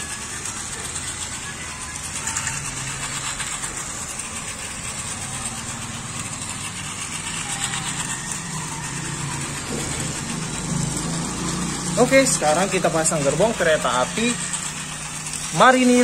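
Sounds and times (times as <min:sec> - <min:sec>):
toy train motors whirring: 0:00.0 - 0:16.0
toy train wheels rattling: 0:00.0 - 0:16.0.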